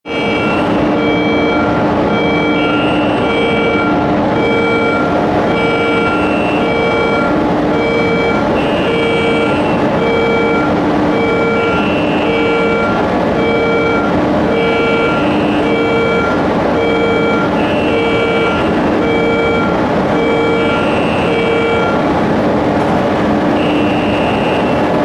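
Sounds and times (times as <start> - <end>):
machinery noise: 0.0 - 25.0
two-tone warning alarm: 0.1 - 22.5, 23.4 - 25.0.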